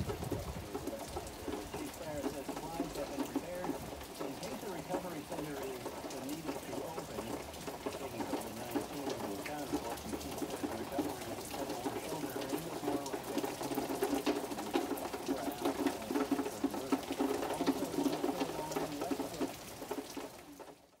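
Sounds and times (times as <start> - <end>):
raindrops ticking on surfaces: 0.0 - 21.0
steady rain din: 0.0 - 21.0.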